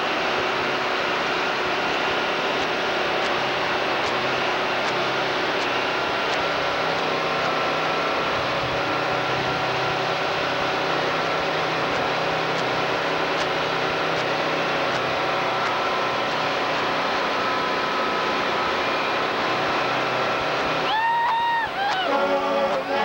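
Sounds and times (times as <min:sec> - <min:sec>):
road noise: 0:00.0 - 0:23.0
truck diesel engine drone: 0:00.0 - 0:23.0.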